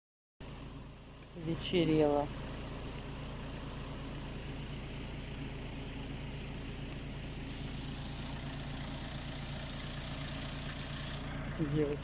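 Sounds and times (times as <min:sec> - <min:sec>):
engine idling hum: 0:00.4 - 0:12.0.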